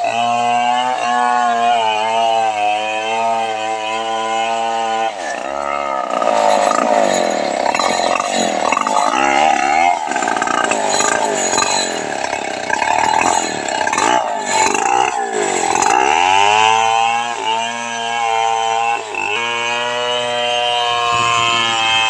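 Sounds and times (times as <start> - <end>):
chainsaw cutting through log: 0.0 - 22.0.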